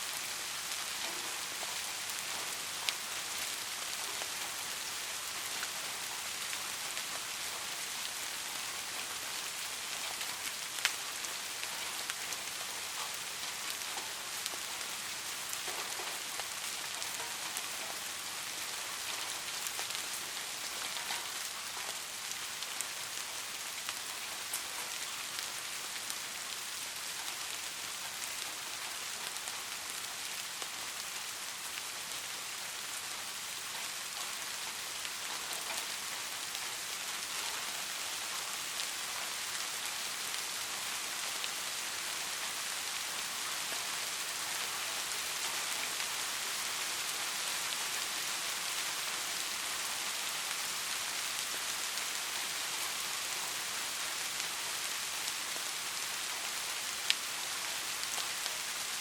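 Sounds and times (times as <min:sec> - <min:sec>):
raindrops pattering: 0:00.0 - 0:59.0.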